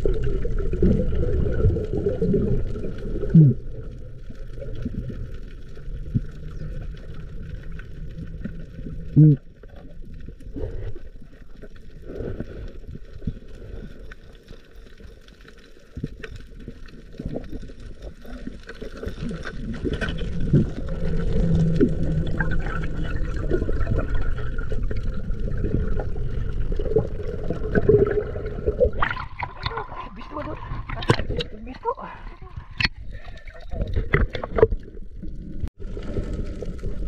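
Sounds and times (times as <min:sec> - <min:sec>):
water gurgling and sloshing: 0:00.0 - 0:37.0.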